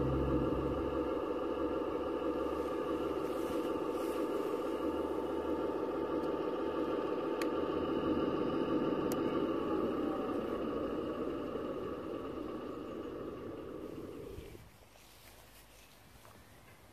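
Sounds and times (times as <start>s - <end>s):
diesel engine idle through small speaker: 0.0s - 14.7s.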